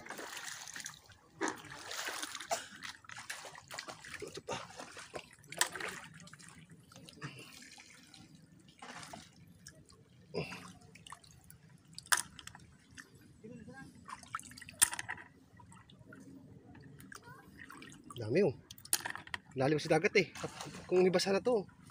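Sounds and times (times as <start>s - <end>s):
person wading through water: 0.0s - 18.2s, 20.3s - 21.2s.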